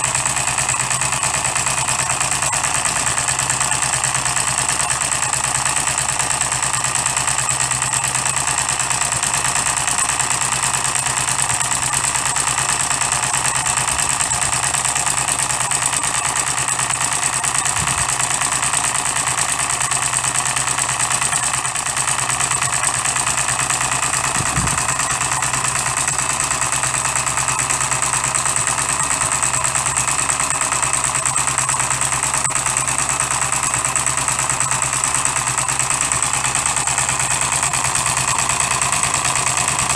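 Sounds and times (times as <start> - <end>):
model diesel engine running: 0.0 - 39.9.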